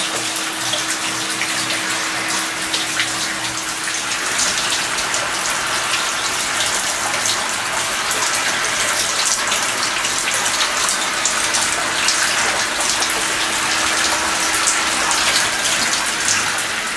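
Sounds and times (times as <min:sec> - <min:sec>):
water spraying and spattering: 0:00.0 - 0:16.9.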